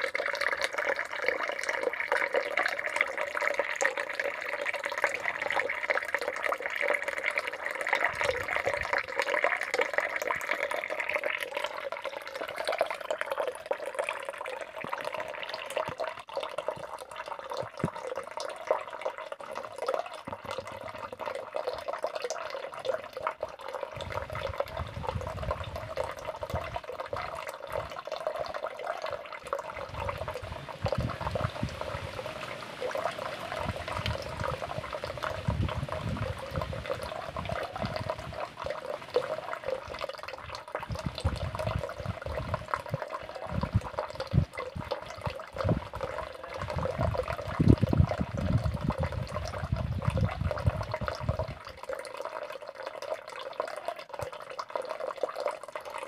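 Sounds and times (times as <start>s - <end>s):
running splashing water: 0.0s - 56.0s.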